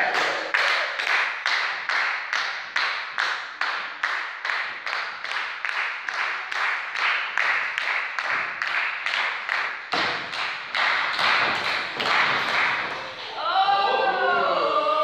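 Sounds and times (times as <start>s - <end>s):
crowd clapping in unison: 0.0s - 13.4s.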